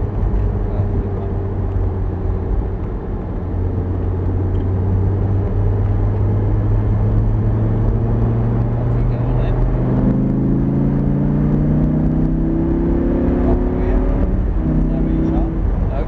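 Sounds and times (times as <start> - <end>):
car engine running: 0.0 - 16.0
wind and road noise: 0.0 - 16.0.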